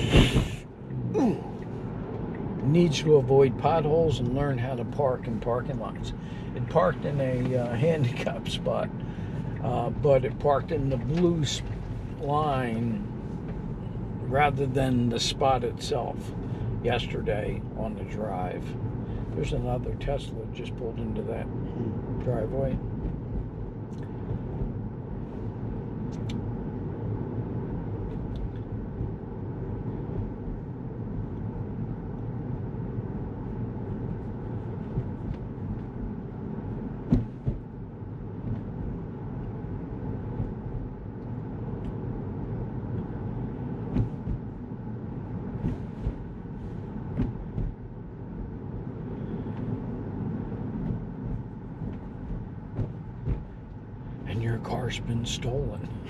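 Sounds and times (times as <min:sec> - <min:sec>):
tyre and road rumble: 0:00.0 - 0:56.0.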